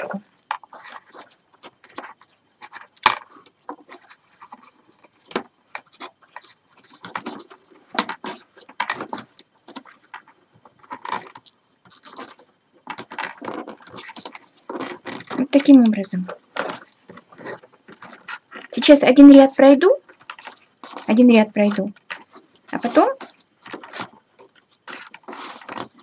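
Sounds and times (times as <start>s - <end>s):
paper tubes rustling and scraping: 0.0s - 26.0s.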